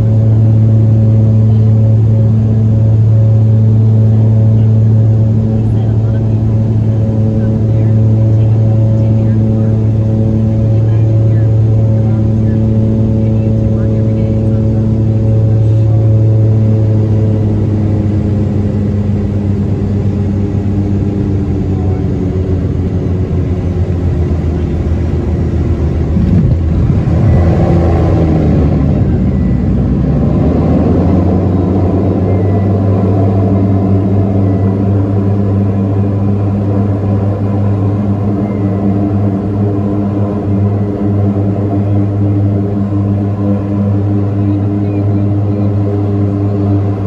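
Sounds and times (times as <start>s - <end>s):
plane engines droning: 0.0s - 47.0s.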